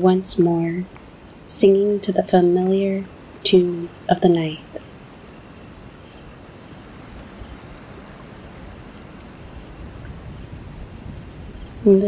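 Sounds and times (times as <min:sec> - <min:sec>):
crickets chirping: 0:00.0 - 0:12.0
soft hiss: 0:00.0 - 0:12.0.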